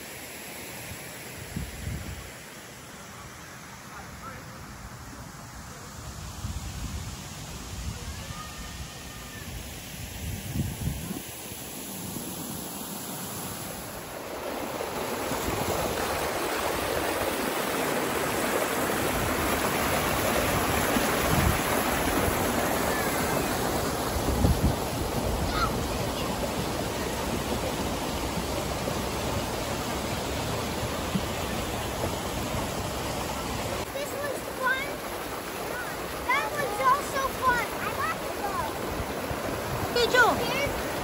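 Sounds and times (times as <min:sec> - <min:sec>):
rushing water of waterfall: 0:00.0 - 0:41.0.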